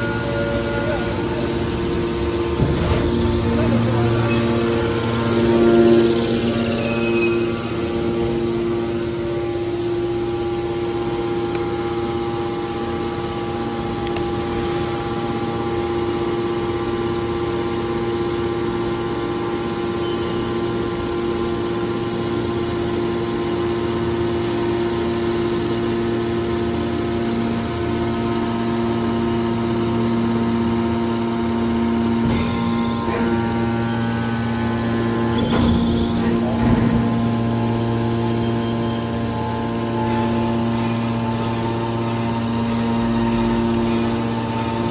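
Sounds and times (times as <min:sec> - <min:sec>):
hydraulic pump motor humming: 0:00.0 - 0:44.9.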